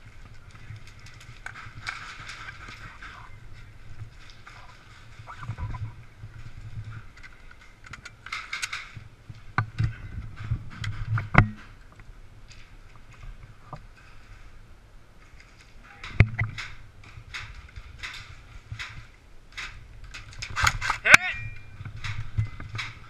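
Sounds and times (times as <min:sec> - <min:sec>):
rifle handling clicks and rattles: 0:00.1 - 0:14.0, 0:15.2 - 0:23.0.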